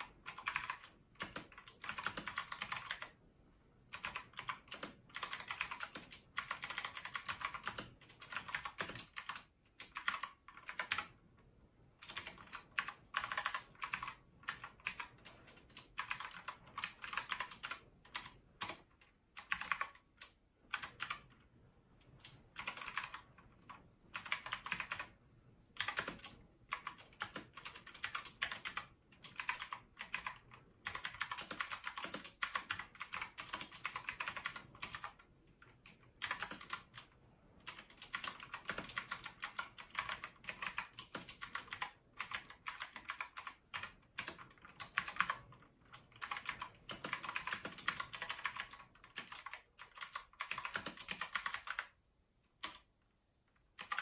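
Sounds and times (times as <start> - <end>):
mechanical keyboard clicks: 0.0 - 3.2, 3.9 - 11.2, 12.0 - 25.2, 25.8 - 52.0, 52.6 - 52.9, 53.8 - 54.0.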